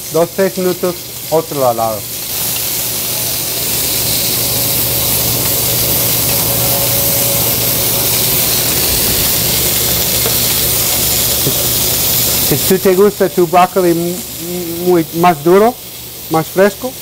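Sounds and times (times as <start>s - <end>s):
chicken sizzling in a pan: 0.0s - 17.0s
steady low hum: 2.0s - 16.3s.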